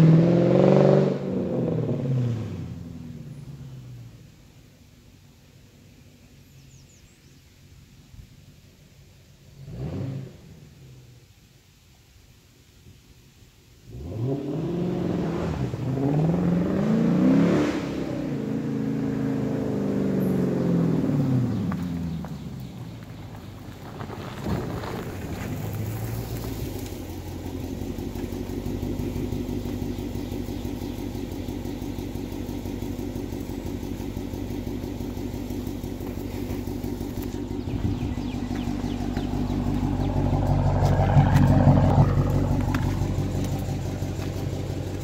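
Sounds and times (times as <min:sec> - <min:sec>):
car engine idling: 0:01.2 - 0:17.0, 0:18.1 - 0:45.0.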